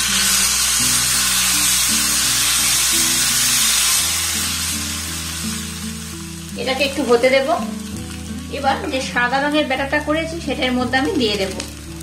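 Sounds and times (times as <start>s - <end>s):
background music: 0.0s - 12.0s
batter sizzling on hot pan: 0.0s - 12.0s.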